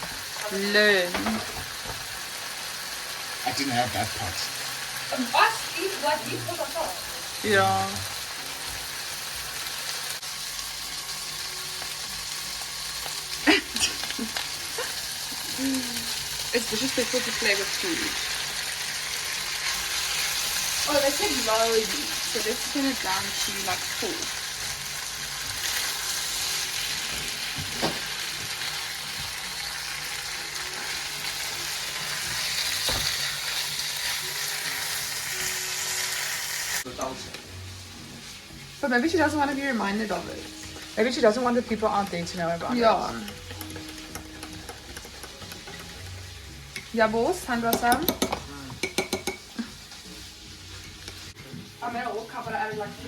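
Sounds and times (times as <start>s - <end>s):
food sizzling in a frying pan: 0.0s - 53.0s.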